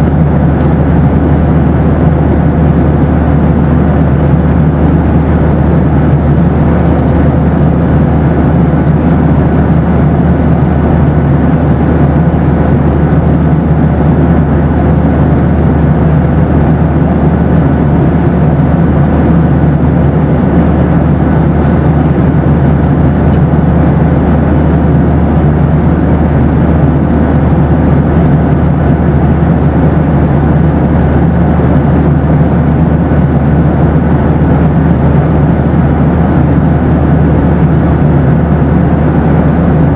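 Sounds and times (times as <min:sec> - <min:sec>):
airliner cabin engine noise: 0:00.0 - 0:39.9.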